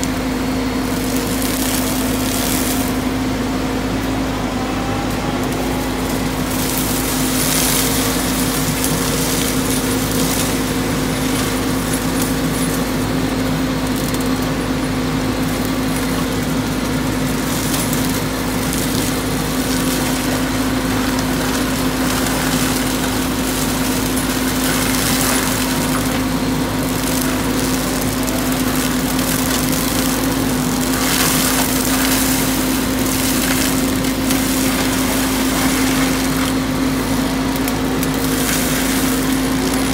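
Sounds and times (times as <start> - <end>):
mulcher shredding brush: 0.0 - 39.9
steady machine hum: 0.0 - 39.9.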